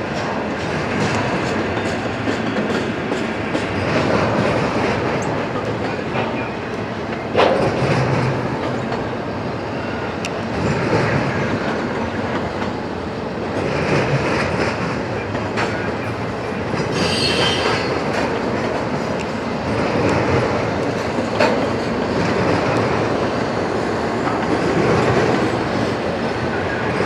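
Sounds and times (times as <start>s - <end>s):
train wheels clattering over rail joints: 0.0s - 9.2s, 13.4s - 27.0s.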